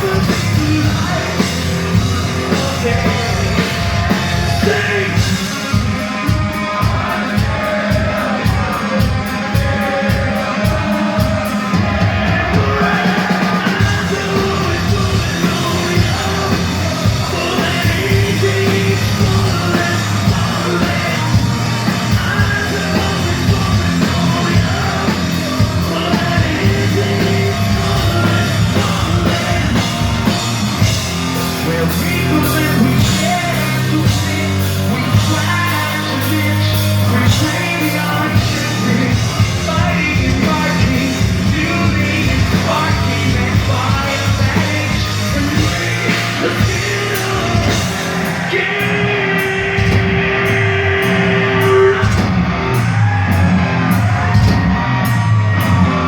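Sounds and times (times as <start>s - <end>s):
live metal band playing: 0.0s - 56.0s
sung and shouted vocals: 0.0s - 56.0s.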